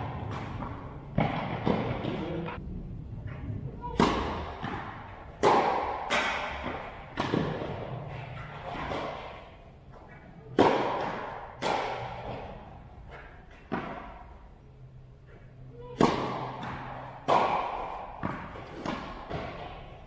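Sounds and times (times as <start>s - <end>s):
tennis ball bouncing on court: 0.0s - 2.3s, 3.9s - 9.4s, 10.0s - 14.4s, 15.3s - 20.0s
tennis ball hit by rackets: 0.0s - 2.3s, 3.9s - 14.4s, 15.3s - 20.0s.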